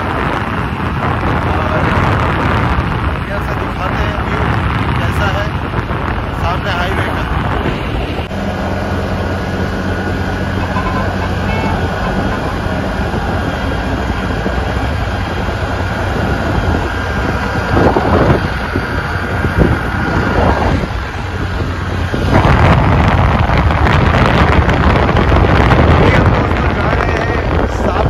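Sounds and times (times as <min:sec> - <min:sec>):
vehicle engine running: 0:00.0 - 0:28.0
wind rushing over microphone: 0:00.0 - 0:28.0.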